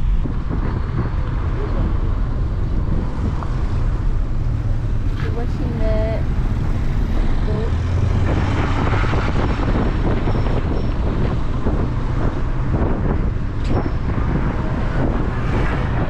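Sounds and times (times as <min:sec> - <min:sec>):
vehicle and road noise: 0:00.0 - 0:16.0
wind buffeting microphone: 0:00.0 - 0:16.0.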